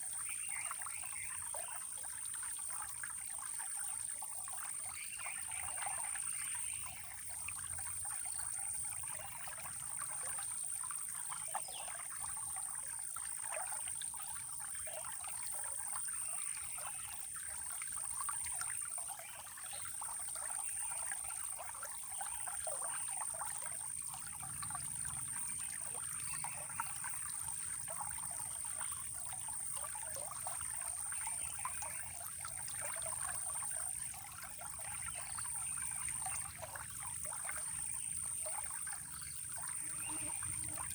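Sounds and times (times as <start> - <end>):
stream trickling and gurgling: 0.0 - 40.9.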